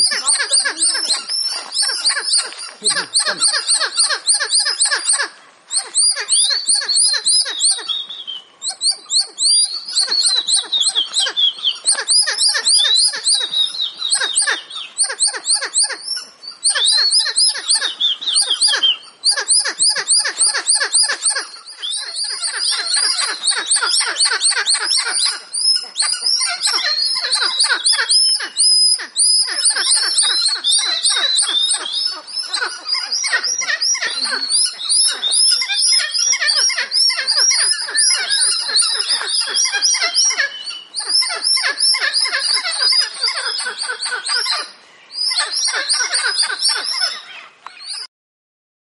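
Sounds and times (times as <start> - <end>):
chorus of shrill chirping calls: 0.0 - 48.1.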